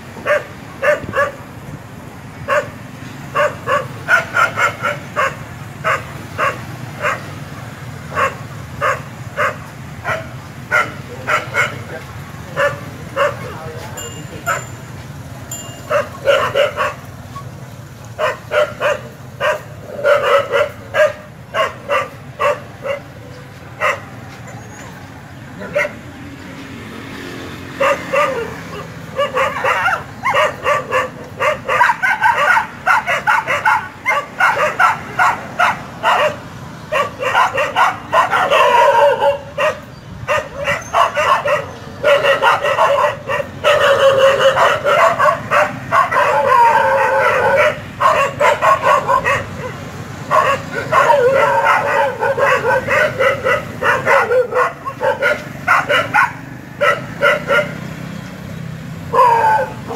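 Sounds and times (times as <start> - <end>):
dogs yelping and barking: 0.1 - 1.6, 2.4 - 59.9.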